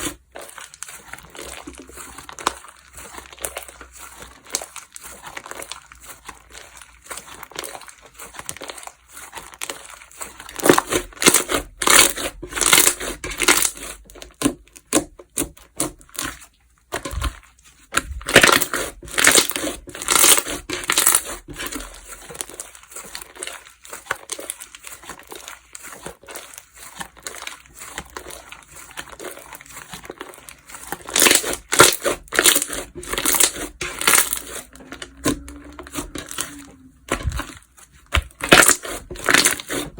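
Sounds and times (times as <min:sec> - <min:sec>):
slime crackling and popping: 0:00.0 - 0:17.3, 0:17.9 - 0:39.9.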